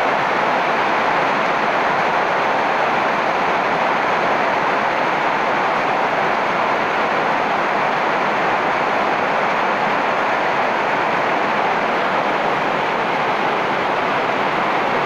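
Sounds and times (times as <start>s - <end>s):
heavy rain on leaves: 0.0s - 15.0s.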